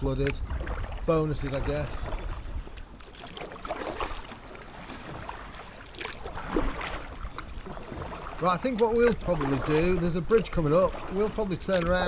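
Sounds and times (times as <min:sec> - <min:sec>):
paddle swishing through water: 0:00.0 - 0:12.0.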